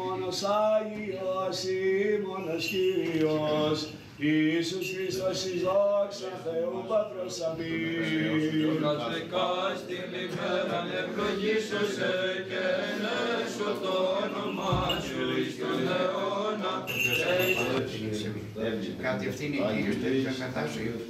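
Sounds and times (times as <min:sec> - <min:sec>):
men chanting a hymn: 0:00.0 - 0:19.0.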